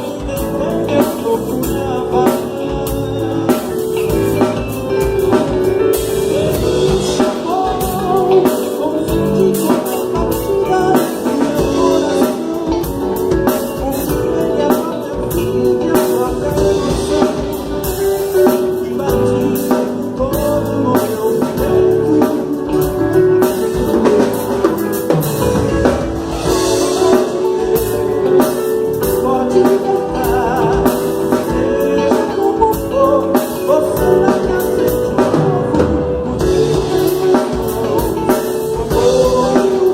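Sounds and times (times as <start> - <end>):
drum kit beat: 0.0 - 39.9
guitar: 0.0 - 39.9
worship band playing: 0.0 - 39.9
people singing: 6.0 - 20.1, 21.0 - 39.9.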